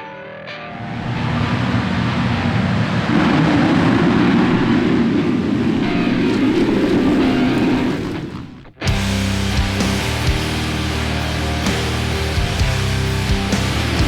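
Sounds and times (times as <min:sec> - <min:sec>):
motocross bikes roaring: 0:00.8 - 0:14.0.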